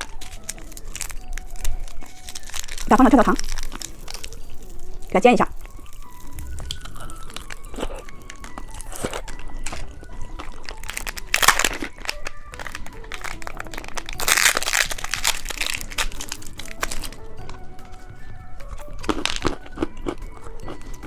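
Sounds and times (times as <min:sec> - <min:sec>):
popping candy crackling in a pan: 0:00.0 - 0:21.0
soft background music: 0:00.0 - 0:21.0.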